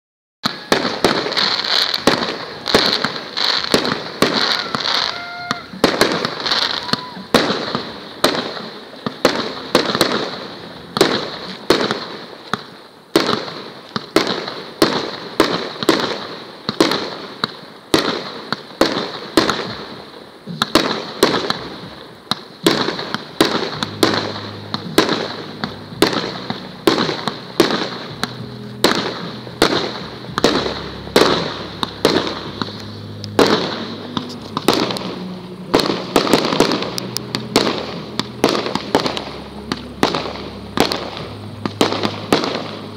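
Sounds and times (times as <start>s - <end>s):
fireworks bangs: 0.4s - 42.9s.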